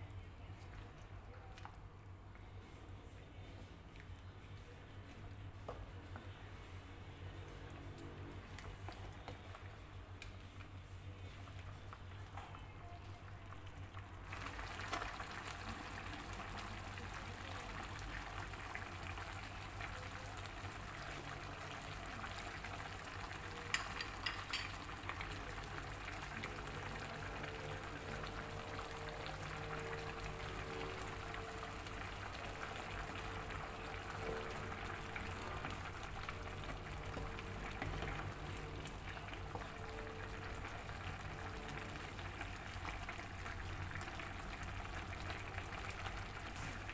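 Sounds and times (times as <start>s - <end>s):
broth bubbling in a pan: 7.1s - 46.9s.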